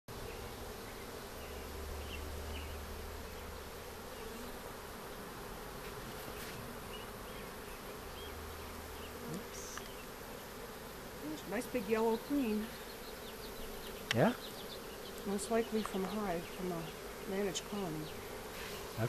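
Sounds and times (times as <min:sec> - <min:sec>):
bees buzzing: 0:00.1 - 0:19.0.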